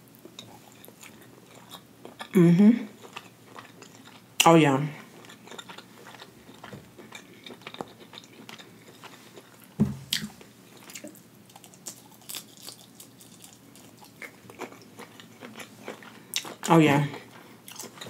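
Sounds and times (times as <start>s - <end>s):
person chewing with wet mouth sounds: 0.2s - 18.0s.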